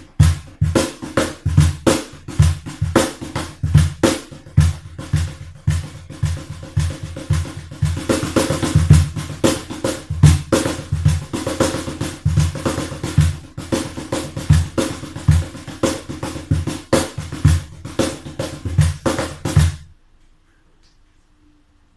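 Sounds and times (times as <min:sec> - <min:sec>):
cajon drum played by hand: 0:00.0 - 0:19.9.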